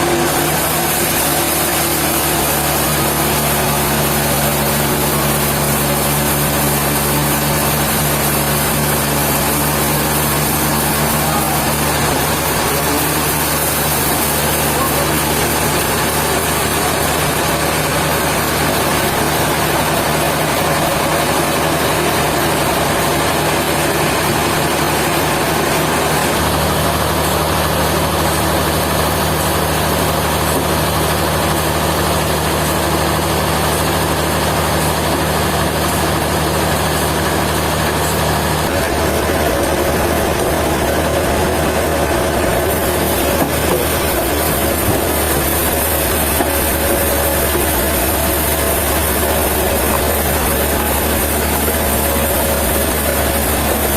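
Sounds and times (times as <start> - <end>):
low engine-like hum: 0.0 - 53.9
sawmill machinery running: 0.0 - 53.9.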